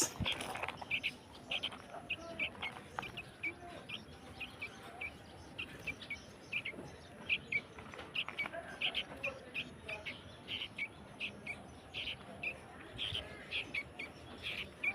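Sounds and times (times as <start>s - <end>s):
bird chirping: 0.0s - 14.9s.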